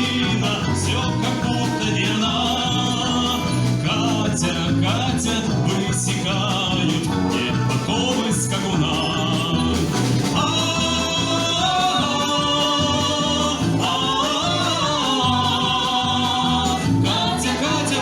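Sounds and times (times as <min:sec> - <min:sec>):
instrumental backing: 0:00.0 - 0:18.0
person singing folk song: 0:00.0 - 0:18.0.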